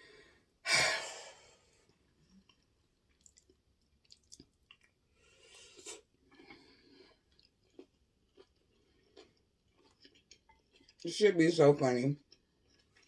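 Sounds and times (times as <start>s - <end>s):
chewing food: 1.8s - 13.0s.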